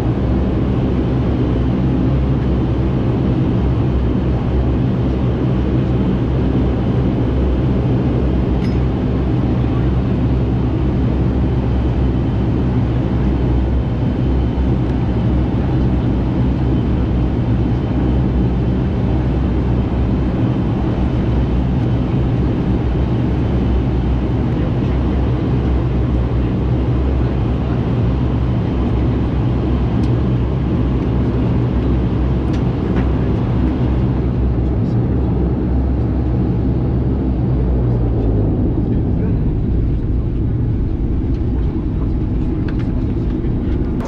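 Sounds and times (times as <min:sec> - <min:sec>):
turboprop engines droning in cabin: 0:00.0 - 0:44.0.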